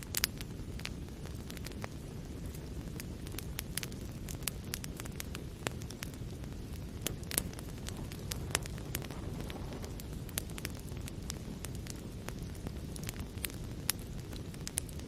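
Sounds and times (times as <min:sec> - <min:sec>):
fire crackling and popping: 0:00.0 - 0:15.0
low rumble of flame: 0:00.0 - 0:15.0.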